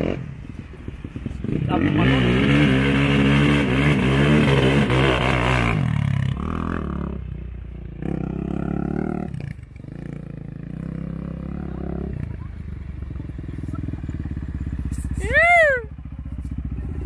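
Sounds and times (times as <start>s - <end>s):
quad engine revving: 1.4s - 17.0s.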